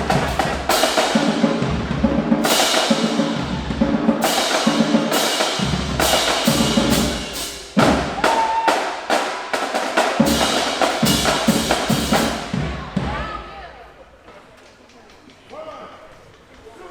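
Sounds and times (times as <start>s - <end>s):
rapid drum strikes: 0.0s - 13.6s.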